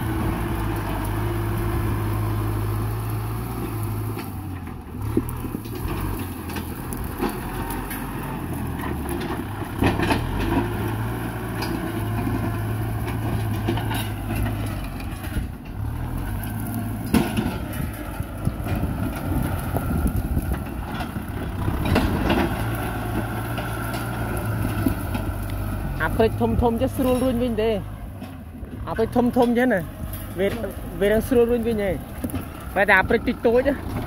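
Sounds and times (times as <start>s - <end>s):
tractor diesel engine: 0.0s - 34.0s
dry stalks cracking: 0.1s - 34.0s.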